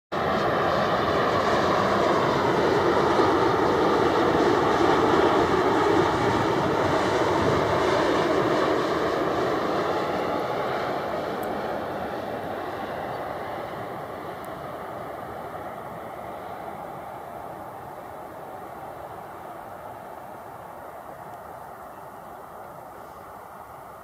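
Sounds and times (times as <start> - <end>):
jet airliner rumble with whine: 0.1 - 24.0.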